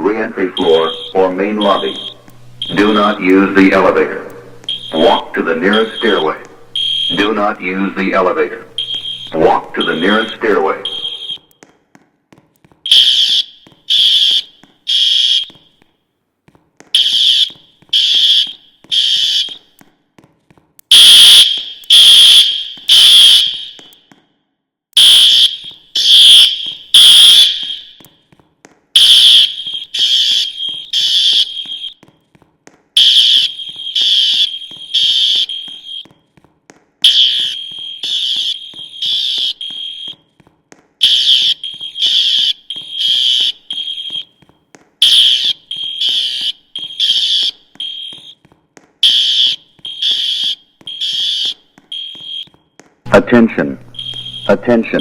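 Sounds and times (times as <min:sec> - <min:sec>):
fire alarm beeping: 0:00.0 - 0:11.6, 0:12.9 - 0:15.8, 0:16.9 - 0:19.8, 0:20.9 - 0:24.1, 0:25.0 - 0:28.2, 0:28.9 - 0:32.0, 0:33.0 - 0:36.1, 0:37.0 - 0:40.3, 0:41.0 - 0:44.4, 0:45.0 - 0:48.4, 0:49.0 - 0:55.0.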